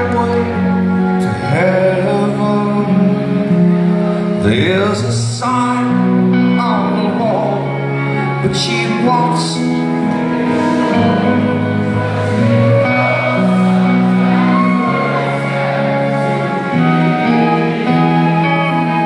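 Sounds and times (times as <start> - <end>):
electric guitar chords: 0.0 - 19.0
rock band playing: 0.0 - 19.0.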